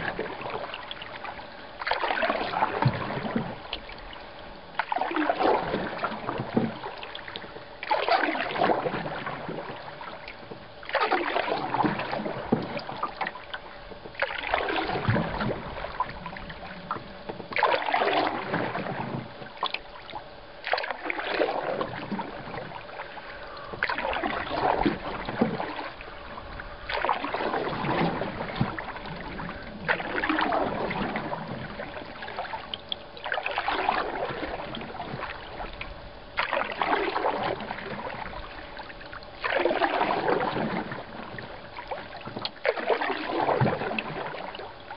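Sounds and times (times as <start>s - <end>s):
canoe paddle splashing: 0.0s - 44.9s.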